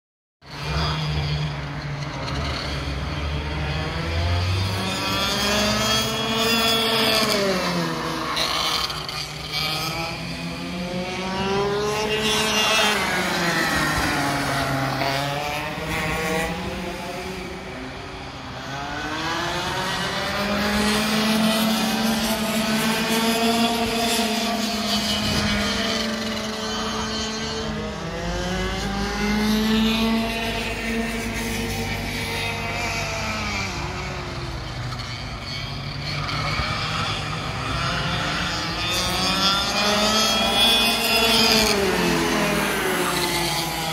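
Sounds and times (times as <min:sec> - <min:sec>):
kart engines revving: 0:00.5 - 0:43.9.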